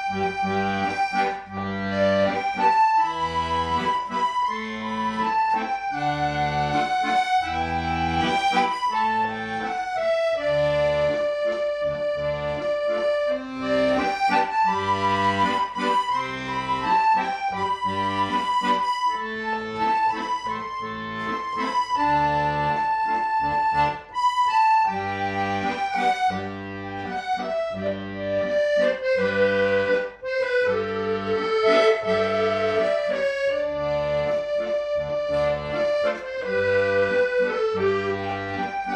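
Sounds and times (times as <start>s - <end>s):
accordion melody: 0.0s - 38.9s
pulsing bass accompaniment: 0.0s - 38.9s.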